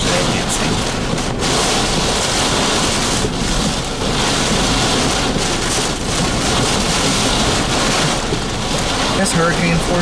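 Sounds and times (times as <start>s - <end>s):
wind and rain hitting vehicle: 0.0s - 10.0s.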